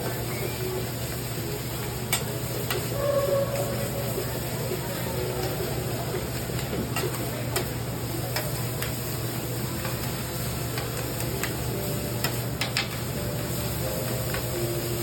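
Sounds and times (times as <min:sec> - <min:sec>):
meat sizzling on griddle: 0:00.0 - 0:15.0.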